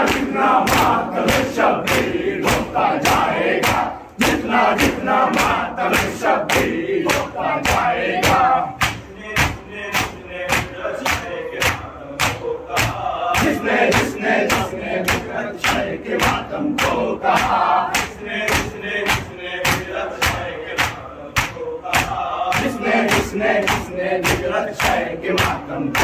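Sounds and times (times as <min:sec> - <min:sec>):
hands slapping chests: 0:00.0 - 0:26.0
men chanting together: 0:00.0 - 0:26.0.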